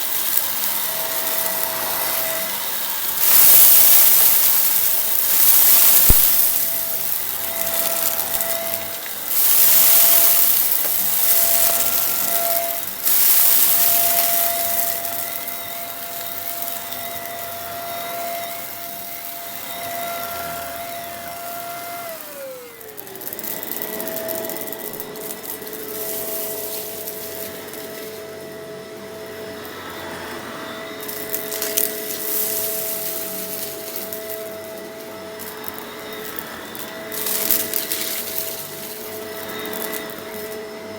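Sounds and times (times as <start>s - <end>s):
dirt being sucked up: 0.0s - 40.9s
vacuum cleaner running: 0.0s - 40.9s.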